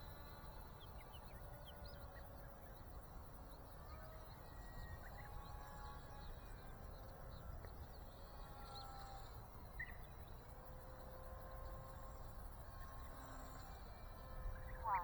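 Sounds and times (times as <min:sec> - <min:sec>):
small electric plane motor whine: 0:00.0 - 0:14.8.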